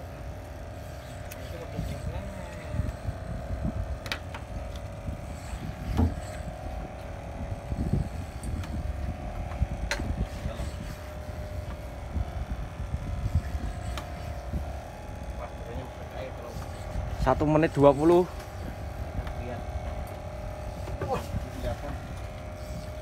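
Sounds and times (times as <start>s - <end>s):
boat engine running: 0.0s - 23.0s
wind rumble on microphone: 0.0s - 23.0s.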